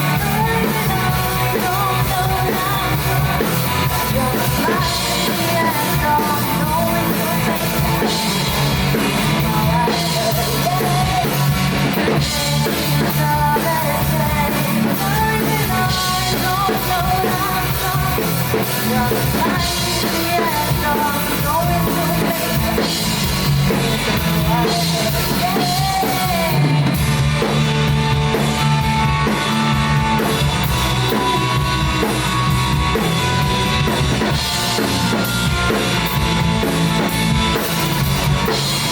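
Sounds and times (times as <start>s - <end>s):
person singing: 0.0s - 36.2s
rock music with drums: 0.0s - 38.9s.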